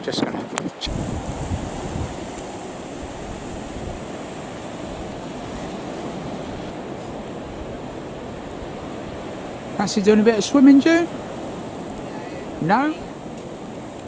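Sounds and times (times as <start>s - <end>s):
sea surf washing on beach: 0.0s - 14.0s.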